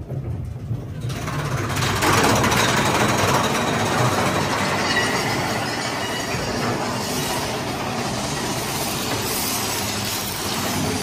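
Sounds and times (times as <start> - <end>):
roller coaster cars rattling: 0.0 - 11.0.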